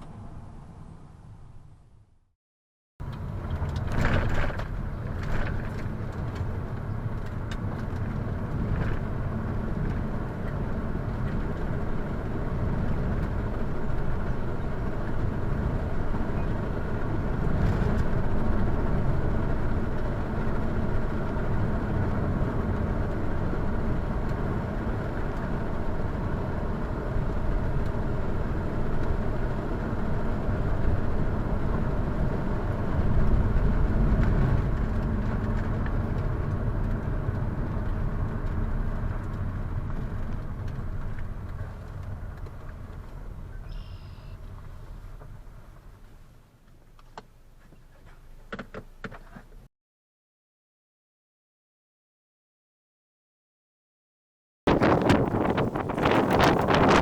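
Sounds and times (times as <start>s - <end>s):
car engine and road noise: 0.0s - 2.3s, 3.0s - 49.7s, 54.7s - 57.0s.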